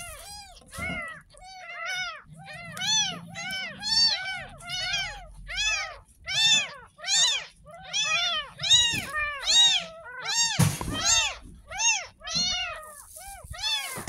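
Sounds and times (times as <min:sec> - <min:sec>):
kitten mewing: 0:00.0 - 0:14.0.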